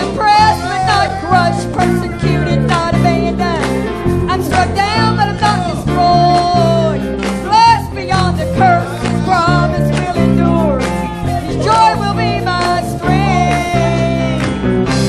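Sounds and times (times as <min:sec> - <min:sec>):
gliding melodic lead line: 0:00.0 - 0:15.0
worship band music: 0:00.0 - 0:15.0.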